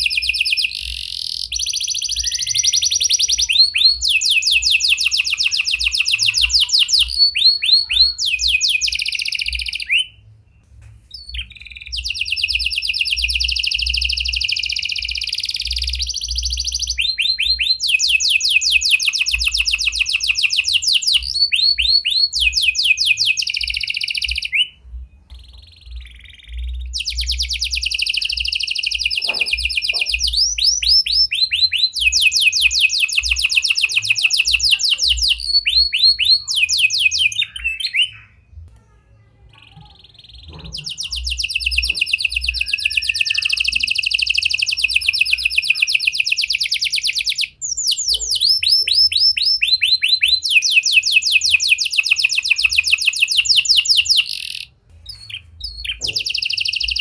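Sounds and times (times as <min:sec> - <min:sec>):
canary singing fast trills: 0:00.0 - 0:38.5, 0:39.5 - 0:57.0.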